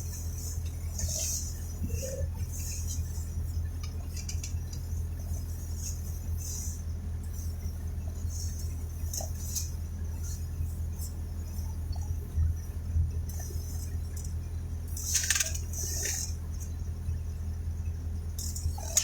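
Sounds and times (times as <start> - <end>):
light ticks and rattles: 0.0 - 12.0, 12.6 - 16.9, 18.3 - 19.0
low rumble inside vehicle cabin: 0.0 - 19.0.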